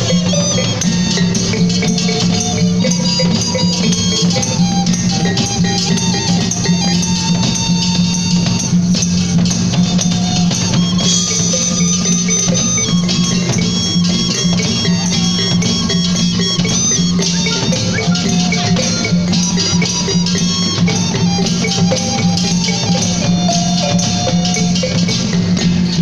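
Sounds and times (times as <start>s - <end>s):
drum and gongs: 0.0s - 26.0s
kettle gongs struck in patterns: 0.0s - 26.0s.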